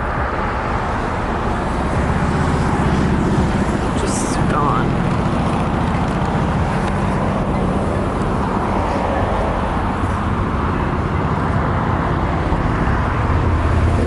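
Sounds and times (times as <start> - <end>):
car tyre and engine rumble: 0.0 - 14.0.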